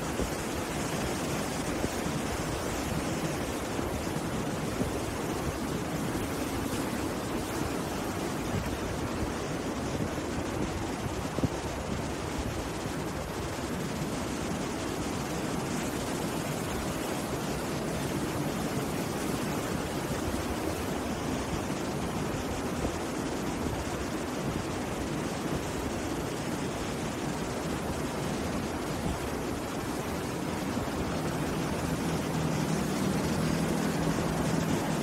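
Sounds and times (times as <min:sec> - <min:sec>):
sea surf breaking on beach: 0:00.0 - 0:35.0.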